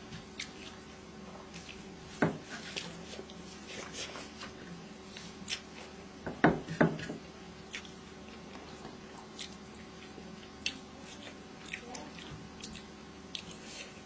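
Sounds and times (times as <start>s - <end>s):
chewing: 0.1s - 6.0s, 7.5s - 14.0s.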